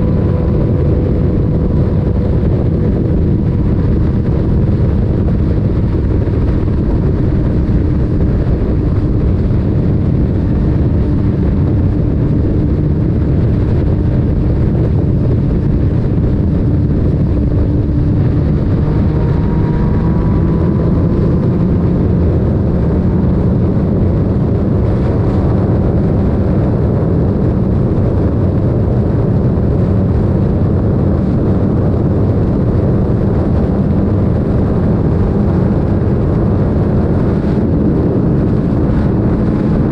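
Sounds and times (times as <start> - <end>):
motorcycle exhaust drone: 0.0 - 39.9
wind rushing over microphone: 0.0 - 39.9.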